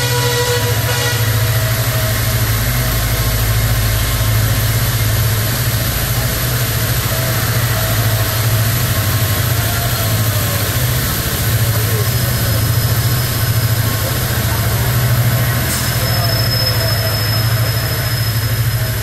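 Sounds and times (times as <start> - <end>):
train rumbling on track: 0.0 - 19.0
wheels rushing on rails: 0.0 - 19.0.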